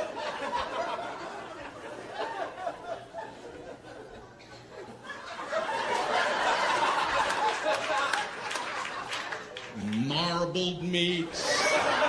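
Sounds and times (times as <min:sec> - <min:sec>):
audience laughing: 0:00.0 - 0:09.7, 0:11.0 - 0:12.0.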